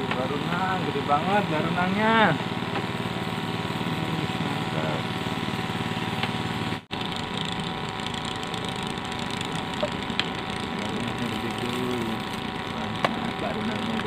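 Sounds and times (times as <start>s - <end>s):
motor running: 0.0s - 14.0s.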